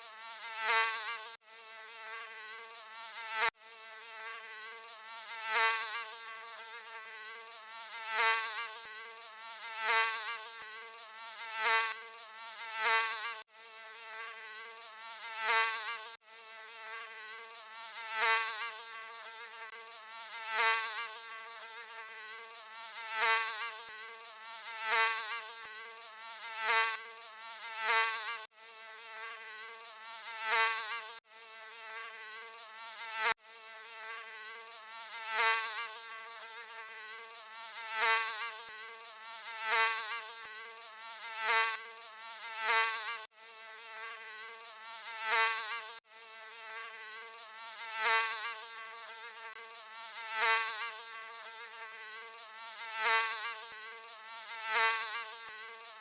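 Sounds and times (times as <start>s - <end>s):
mosquito buzzing: 0.0s - 56.0s.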